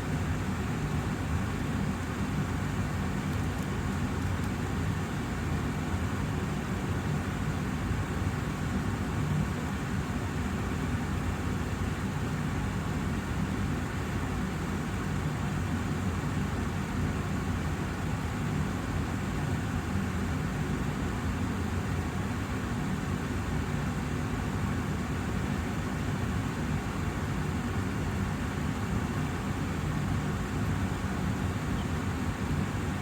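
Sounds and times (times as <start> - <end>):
air purifier fan running: 0.0 - 33.0.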